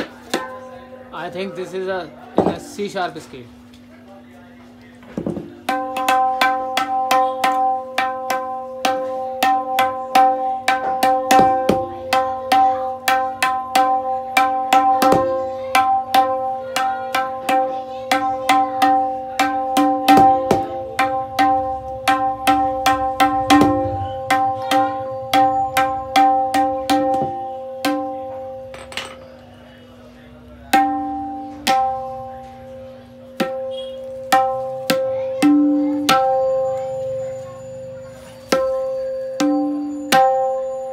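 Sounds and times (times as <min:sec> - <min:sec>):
tabla strokes ringing: 0:00.0 - 0:01.8, 0:05.2 - 0:40.9
deeper tabla strokes: 0:05.6 - 0:28.7, 0:30.7 - 0:40.9.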